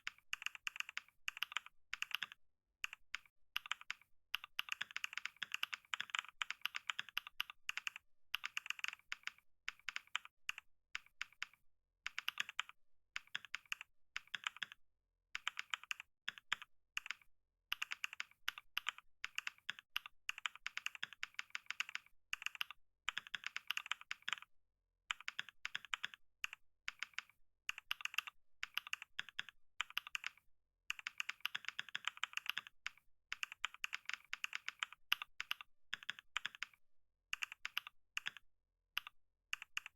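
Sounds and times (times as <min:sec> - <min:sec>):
typing on computer keyboard: 0:00.0 - 0:14.8, 0:15.4 - 0:24.5, 0:25.1 - 0:39.9.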